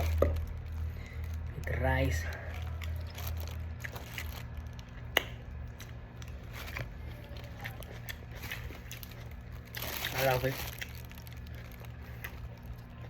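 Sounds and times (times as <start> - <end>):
person chewing food: 2.2 - 13.0.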